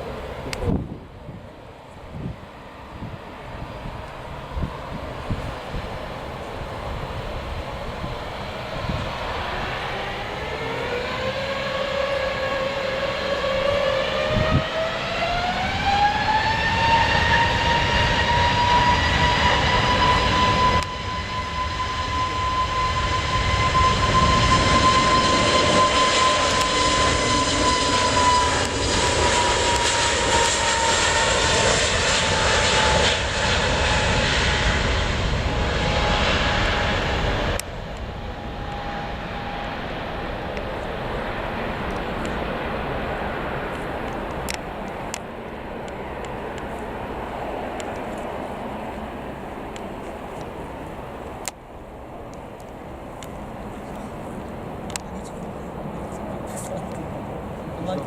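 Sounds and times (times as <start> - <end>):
jet engine roar: 0.0 - 58.0
jet engine whine: 0.0 - 58.0.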